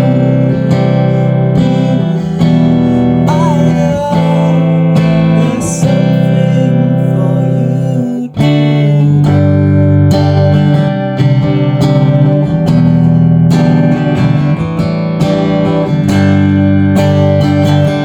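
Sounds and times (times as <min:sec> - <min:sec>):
electric guitar chords ringing: 0:00.0 - 0:18.0.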